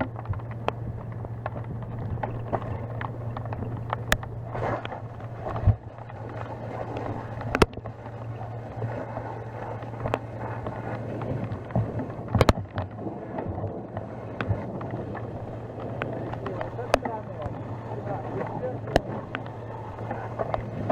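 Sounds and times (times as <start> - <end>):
engine humming: 0.0 - 20.9.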